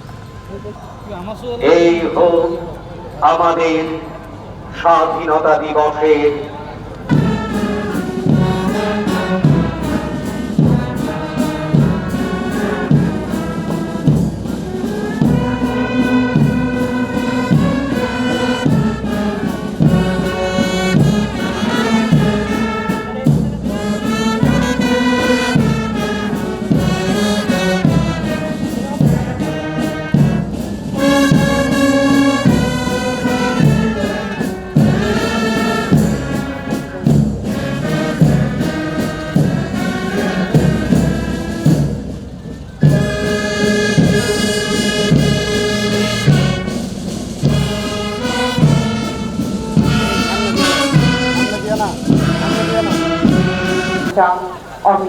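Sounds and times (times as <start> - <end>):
brass band playing a march: 0.0 - 55.0
steady drum beat: 7.0 - 54.2.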